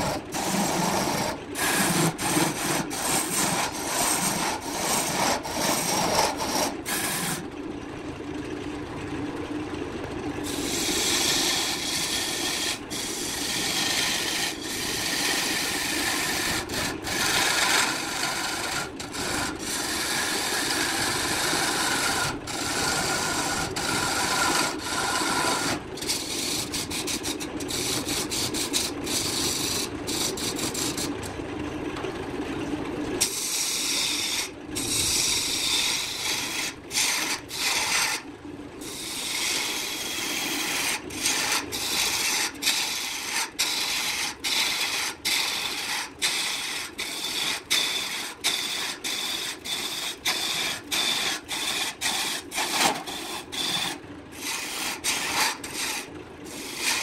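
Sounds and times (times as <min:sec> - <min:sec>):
lathe tool scraping wood: 0:00.0 - 0:07.5, 0:10.4 - 0:31.3, 0:33.2 - 0:57.0.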